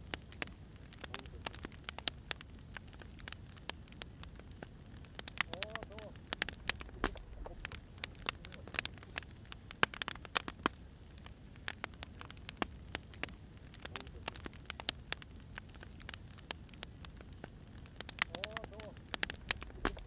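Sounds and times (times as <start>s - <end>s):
logs crackling and popping: 0.0s - 20.0s
low rumble of fire: 0.0s - 20.0s.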